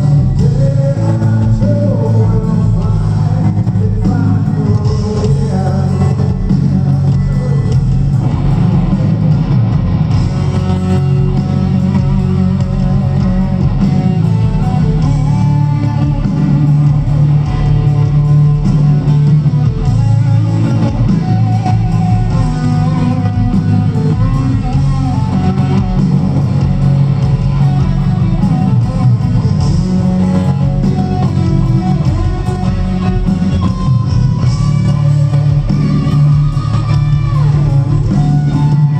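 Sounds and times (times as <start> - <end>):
bass guitar: 0.0 - 38.9
electric guitar: 0.0 - 38.9.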